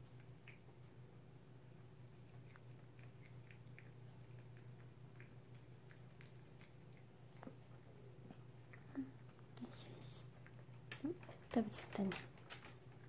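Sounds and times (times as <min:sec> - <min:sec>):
low steady hum: 0:00.0 - 0:13.0
dog chewing a treat: 0:01.7 - 0:13.0.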